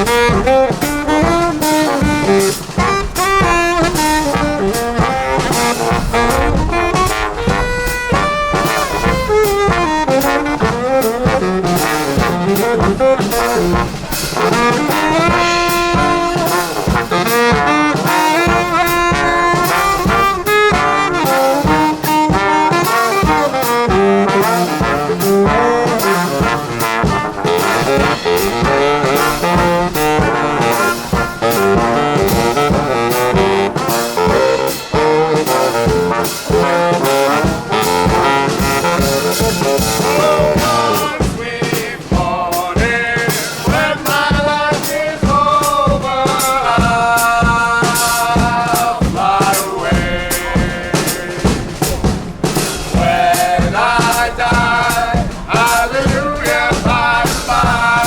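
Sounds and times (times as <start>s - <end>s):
horns playing in harmony: 0.0s - 58.0s
steady drum beat: 0.0s - 58.0s.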